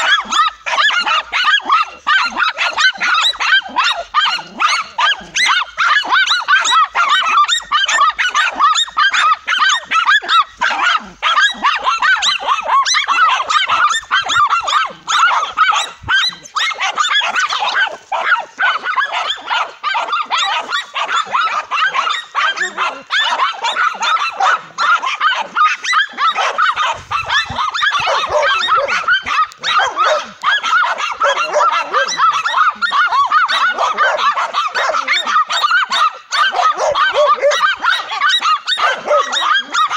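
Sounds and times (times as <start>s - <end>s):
dogs barking and yelping: 0.0s - 39.9s.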